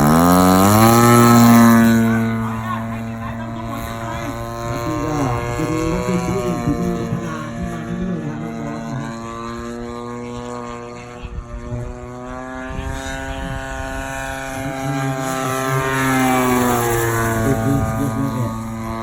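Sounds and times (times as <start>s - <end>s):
model plane engine buzzing: 0.0s - 19.0s.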